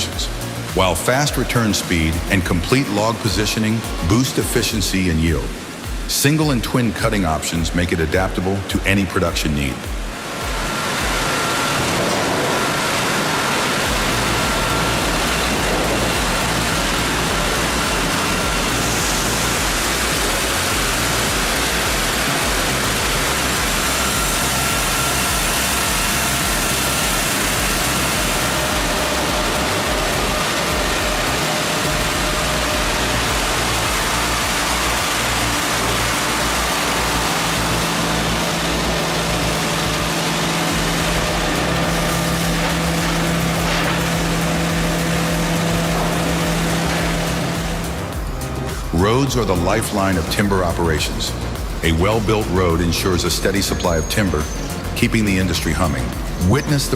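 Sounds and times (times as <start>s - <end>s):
loud machinery noise: 0.0s - 56.9s.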